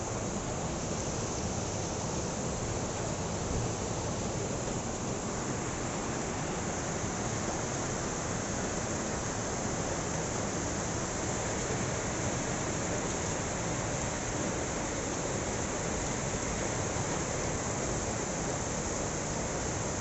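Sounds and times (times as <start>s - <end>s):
heavy rain: 0.1s - 20.0s.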